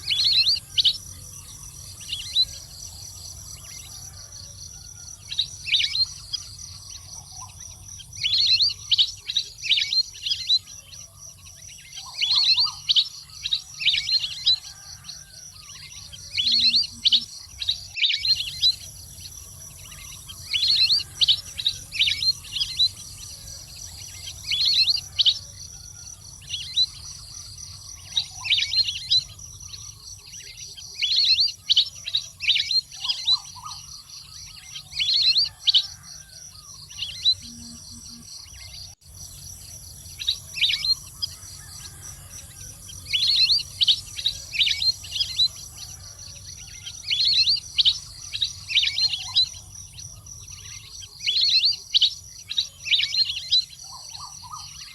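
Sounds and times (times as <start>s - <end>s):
high insect drone: 0.0s - 54.9s.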